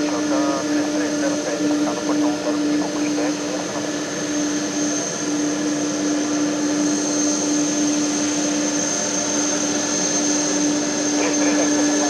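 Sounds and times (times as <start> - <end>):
jet airliner engine drone: 0.0 - 12.0.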